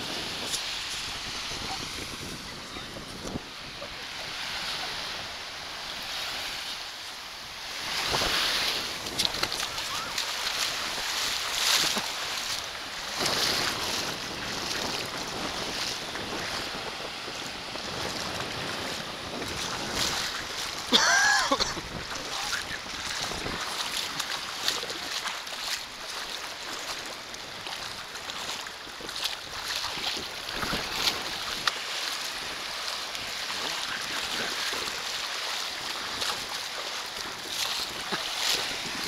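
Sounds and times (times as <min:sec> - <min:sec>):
wind buffeting microphone: 0:00.0 - 0:06.1, 0:07.8 - 0:39.0
small waves washing: 0:00.0 - 0:39.0.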